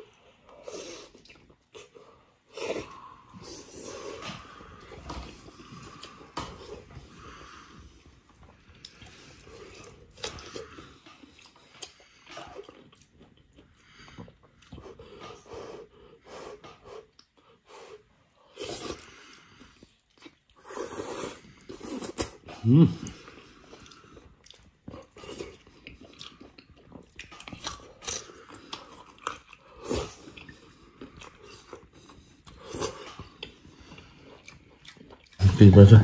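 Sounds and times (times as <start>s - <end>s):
wet chewing and slurping: 0.0s - 35.8s.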